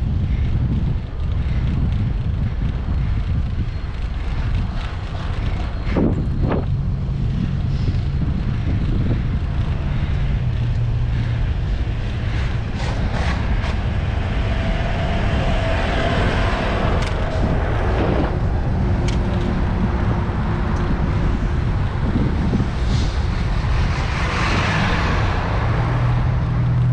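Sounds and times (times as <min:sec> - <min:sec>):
road noise: 0:00.0 - 0:26.9
wind rumble on microphone: 0:00.0 - 0:26.9.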